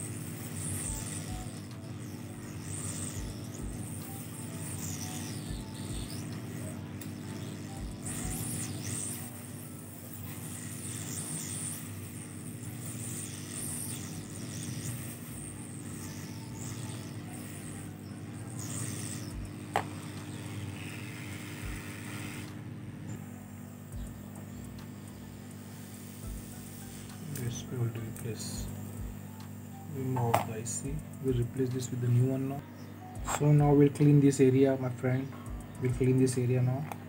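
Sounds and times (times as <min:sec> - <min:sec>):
hot air station fan and hiss: 0:00.0 - 0:37.0.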